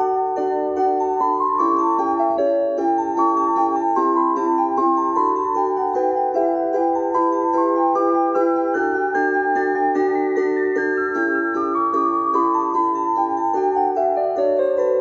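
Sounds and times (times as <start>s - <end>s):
electronic keyboard melody: 0.0s - 15.0s.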